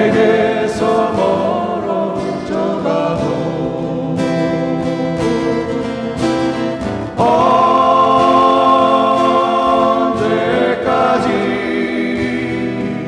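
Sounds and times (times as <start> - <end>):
group singing: 0.0 - 13.0
strummed accompaniment: 0.0 - 13.0.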